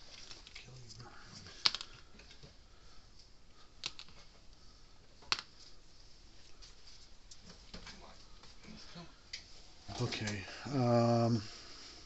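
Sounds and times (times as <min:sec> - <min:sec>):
faint rustling of parts: 0:00.0 - 0:12.0.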